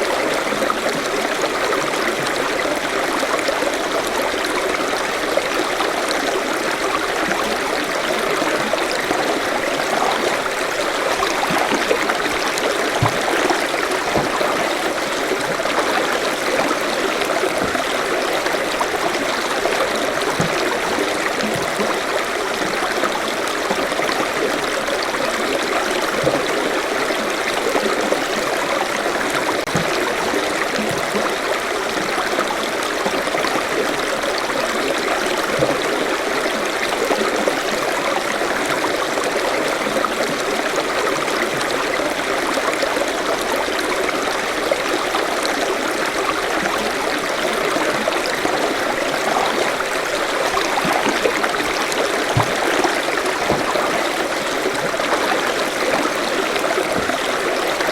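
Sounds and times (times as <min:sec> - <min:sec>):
stream babbling over rocks: 0:00.0 - 0:57.9
water gurgles and plops: 0:00.0 - 0:57.9.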